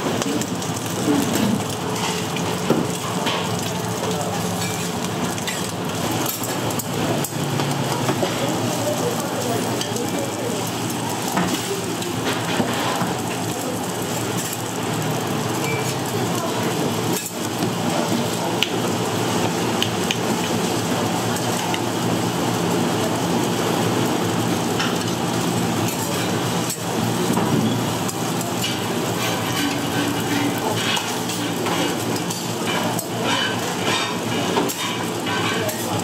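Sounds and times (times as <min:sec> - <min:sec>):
food sizzling in hot oil: 0:00.0 - 0:36.0.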